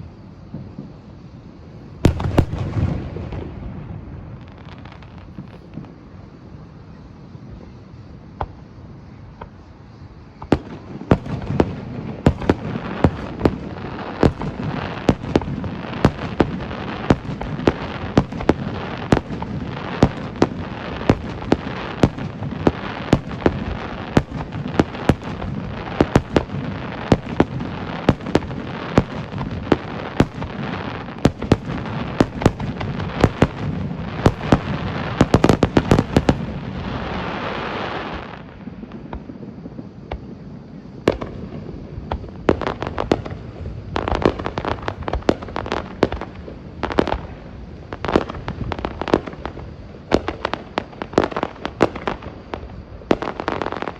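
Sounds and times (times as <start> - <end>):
continuous background noise: 0.0 - 53.9
fireworks bangs: 2.0 - 6.2, 8.3 - 53.9.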